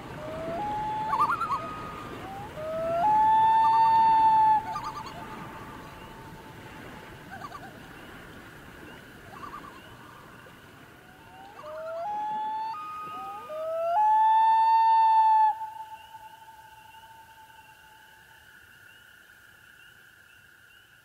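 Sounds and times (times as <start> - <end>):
faint sustained tone: 0.0 - 21.0.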